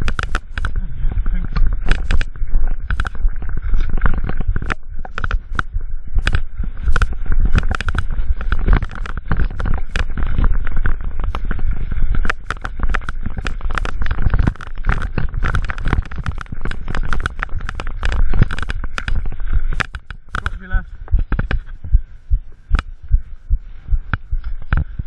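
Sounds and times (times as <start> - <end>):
bike clattering over stones: 0.0 - 20.6
continuous low rumble: 0.0 - 25.0.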